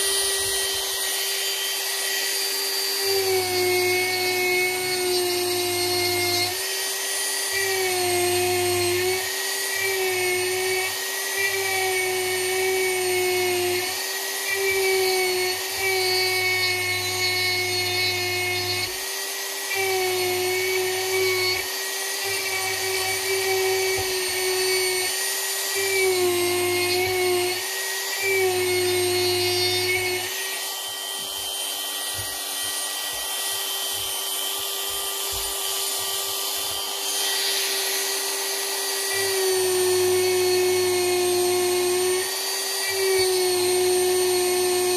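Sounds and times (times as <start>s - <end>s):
rotary tool whining carving wood: 0.0s - 44.9s.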